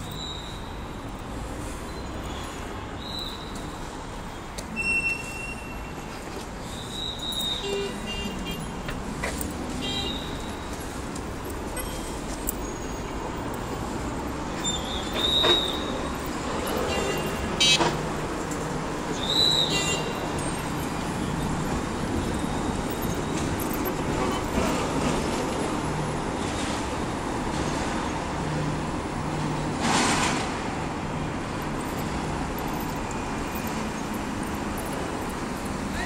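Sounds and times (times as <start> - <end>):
city street traffic: 0.0 - 36.0.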